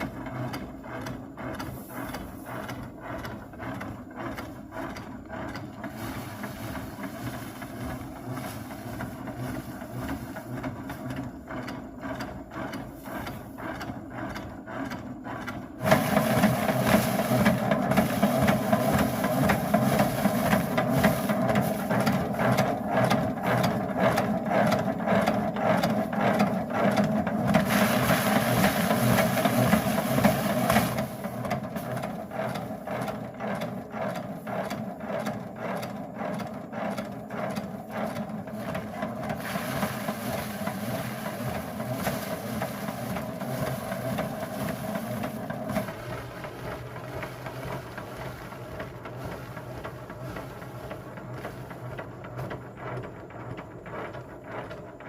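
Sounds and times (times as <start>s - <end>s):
machine clattering: 0.0s - 54.9s.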